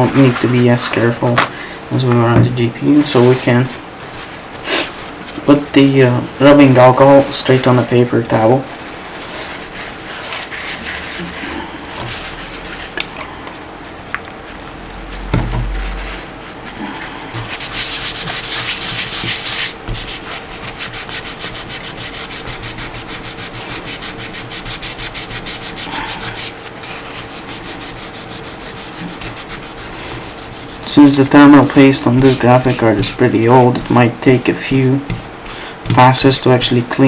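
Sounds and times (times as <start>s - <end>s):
paper towel scrubbing: 0.0s - 1.4s, 2.8s - 37.0s.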